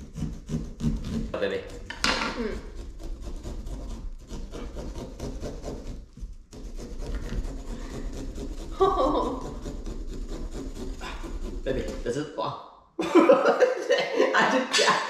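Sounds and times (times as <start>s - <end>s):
small saws rasping through pumpkin: 0.0s - 12.3s.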